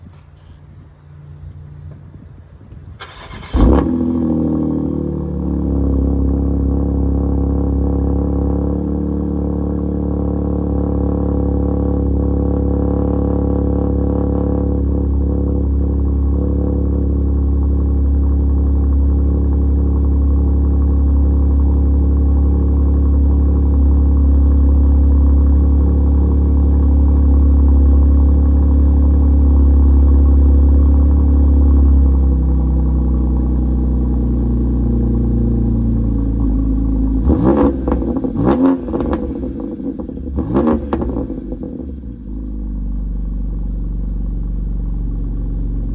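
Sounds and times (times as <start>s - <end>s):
car engine revving and idling: 3.0s - 45.9s.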